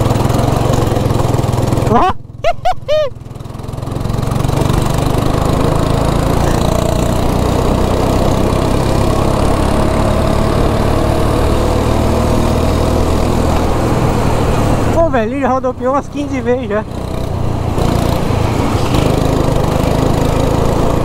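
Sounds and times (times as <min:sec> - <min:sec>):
go-kart engine accelerating: 0:00.0 - 0:21.0.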